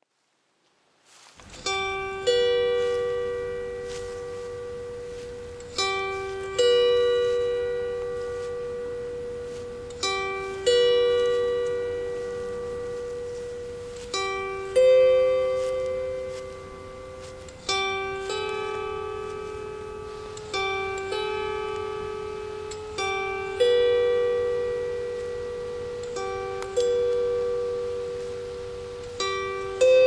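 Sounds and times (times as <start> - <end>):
harp plucked slowly: 1.1 - 30.0.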